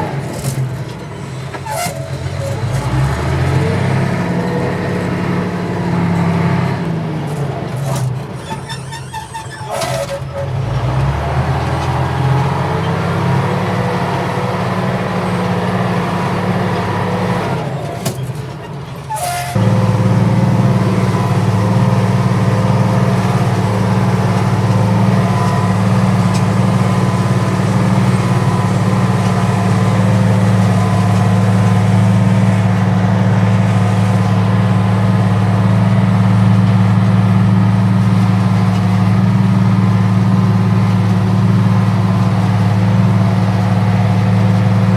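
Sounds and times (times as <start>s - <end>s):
diesel engine working under load: 0.0s - 44.9s.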